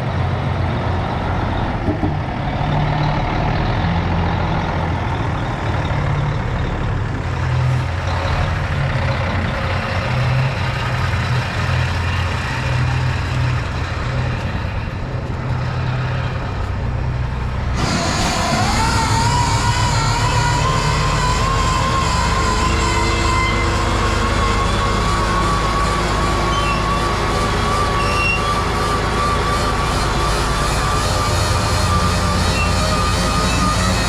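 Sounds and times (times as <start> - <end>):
diesel machinery engine drone: 0.0 - 34.0.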